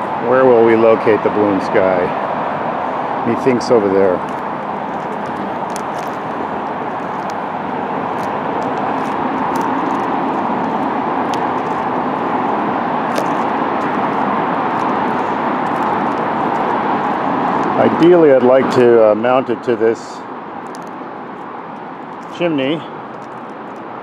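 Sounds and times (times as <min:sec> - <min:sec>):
highway traffic noise: 0:00.0 - 0:24.0.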